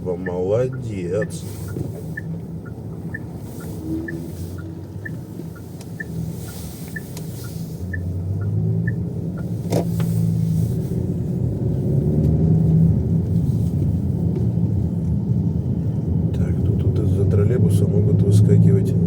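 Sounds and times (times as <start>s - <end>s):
turn signal ticking: 0.0s - 15.6s
car engine and road noise: 0.0s - 19.0s.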